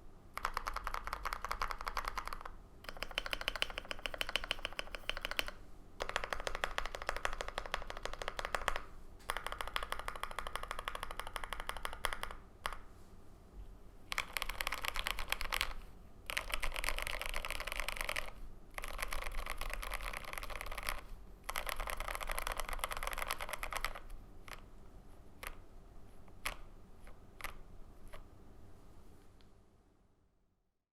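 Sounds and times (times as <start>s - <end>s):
mechanical keyboard typing: 0.3s - 12.9s, 14.1s - 24.7s, 25.4s - 25.6s, 26.4s - 28.2s.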